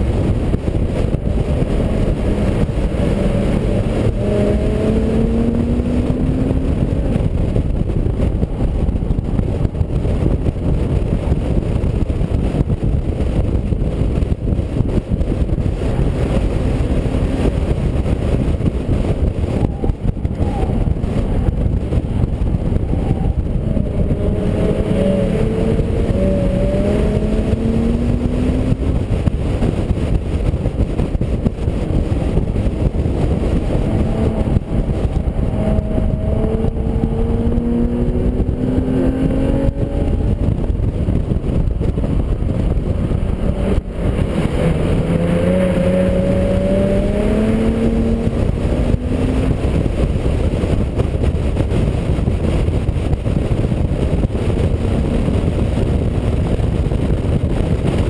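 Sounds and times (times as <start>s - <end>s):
car engine revving: 0.0s - 58.0s
wind and tyre noise: 0.0s - 58.0s.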